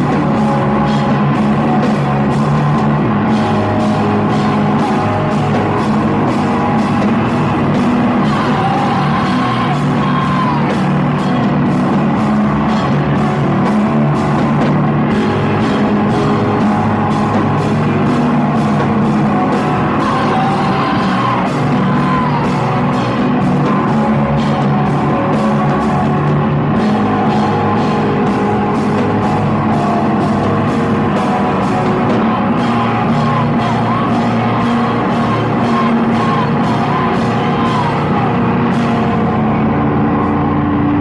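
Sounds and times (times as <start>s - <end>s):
drum beat with cymbal hits: 0.0s - 41.0s
loud rock music: 0.0s - 41.0s
yelled vocals: 0.0s - 41.0s.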